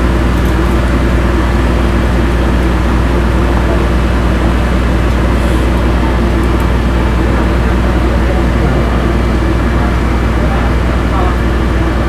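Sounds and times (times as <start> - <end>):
ferry engine humming: 0.0 - 12.0.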